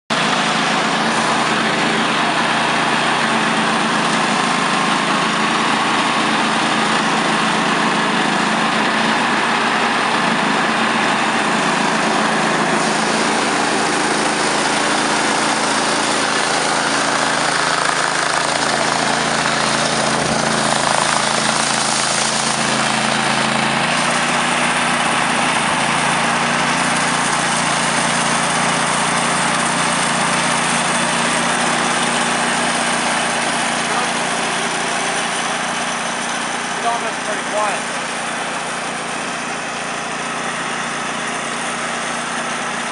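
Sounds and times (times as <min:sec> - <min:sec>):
saw cutting a log: 0:00.1 - 0:42.9
sawmill engine humming: 0:00.1 - 0:42.9.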